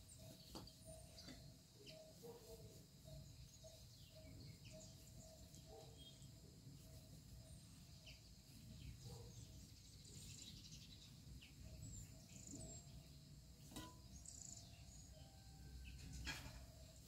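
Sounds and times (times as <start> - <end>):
faint high bird chirps: 0.0 - 17.0.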